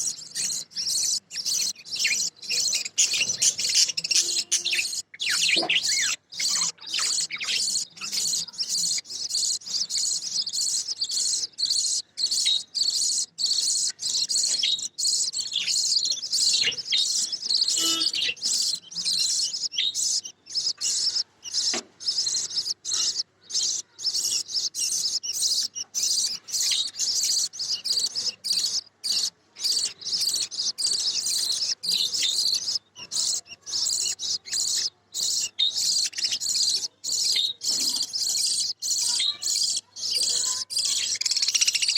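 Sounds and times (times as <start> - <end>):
budgerigars chattering and warbling: 0.0 - 41.9.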